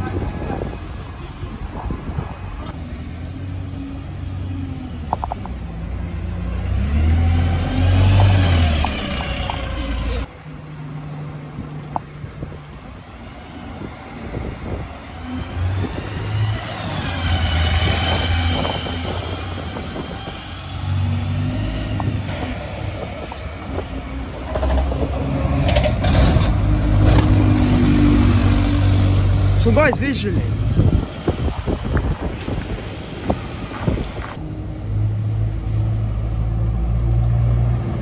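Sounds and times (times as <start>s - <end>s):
bus accelerating: 0.0s - 38.0s
street traffic: 0.0s - 38.0s.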